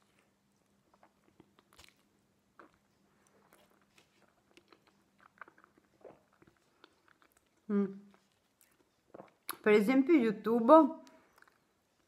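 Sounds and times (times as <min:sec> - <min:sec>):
person chewing food: 0:00.0 - 0:09.6, 0:11.0 - 0:12.0.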